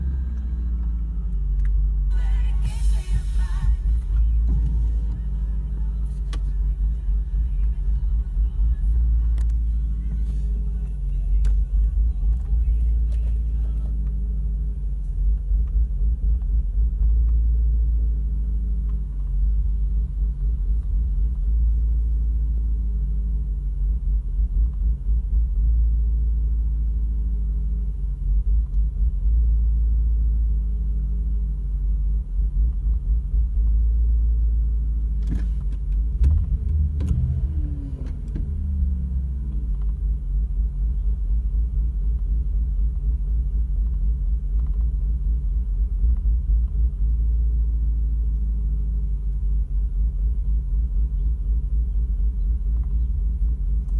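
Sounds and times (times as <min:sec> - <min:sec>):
car engine idling unevenly: 0:00.0 - 0:53.9.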